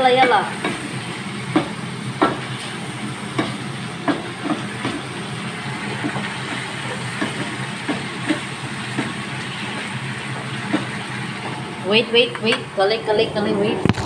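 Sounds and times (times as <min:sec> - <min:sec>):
meat sizzling in a frying pan: 0:00.0 - 0:11.6.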